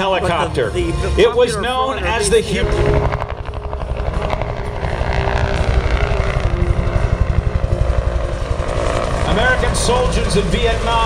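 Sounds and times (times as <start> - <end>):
helicopter low rumble: 0.0 - 11.0
helicopter rotor beating: 0.0 - 11.0.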